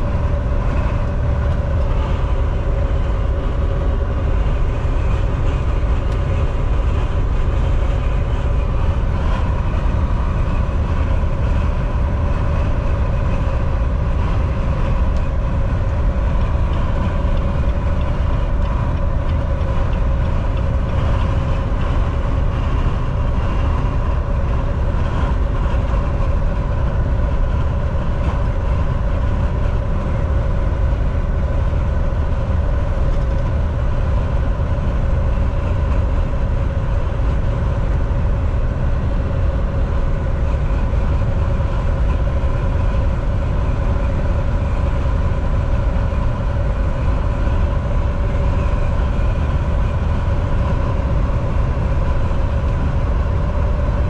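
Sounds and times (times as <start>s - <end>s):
faint steady hum: 0.0s - 54.0s
truck engine and road drone: 0.0s - 54.0s.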